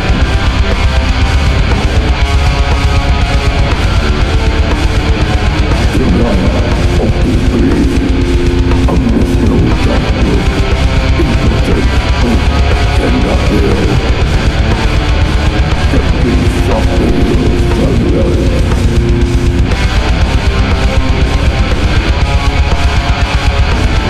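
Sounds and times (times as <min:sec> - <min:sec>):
distorted electric guitars: 0:00.0 - 0:24.0
drums: 0:00.0 - 0:24.0.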